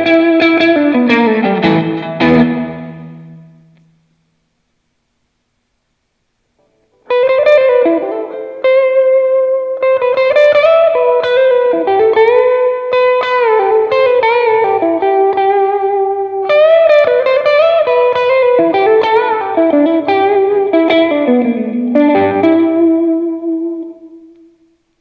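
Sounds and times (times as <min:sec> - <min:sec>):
electric guitar lead melody: 0:00.0 - 0:04.0, 0:06.6 - 0:24.7.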